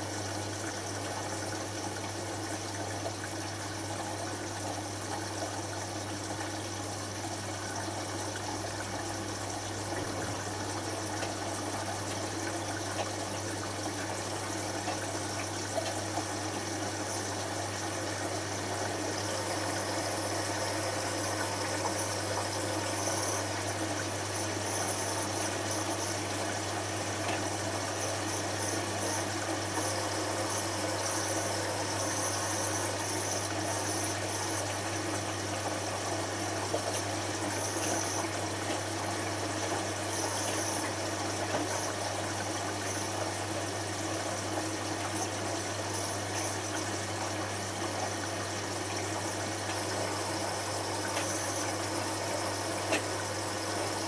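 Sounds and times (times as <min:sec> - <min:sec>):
washing machine drain pump humming: 0:00.0 - 0:54.0.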